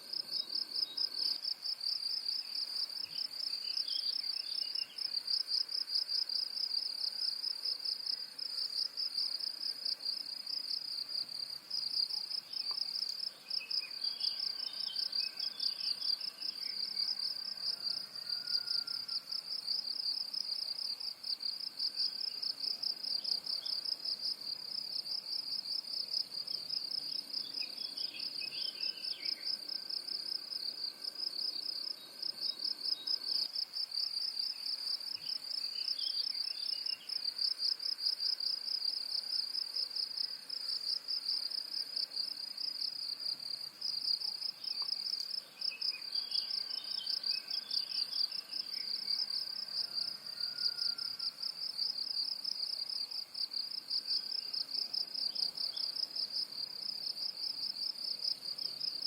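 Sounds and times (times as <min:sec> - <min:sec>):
insects trilling: 0:11.7 - 0:59.0.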